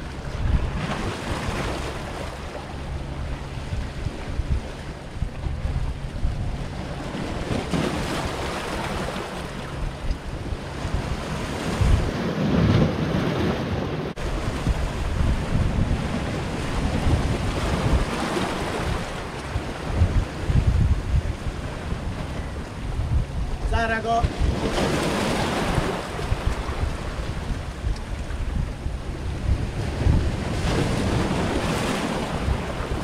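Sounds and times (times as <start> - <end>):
waves breaking over rocks: 0.0 - 2.6, 7.0 - 33.0
wind buffeting microphone: 0.0 - 33.0.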